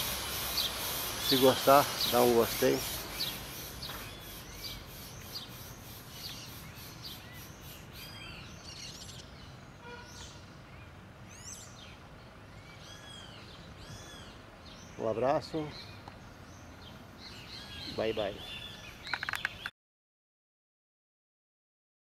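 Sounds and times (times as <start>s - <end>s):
faint pulsing high hiss: 0.0s - 18.9s
small birds chirping: 0.0s - 19.7s.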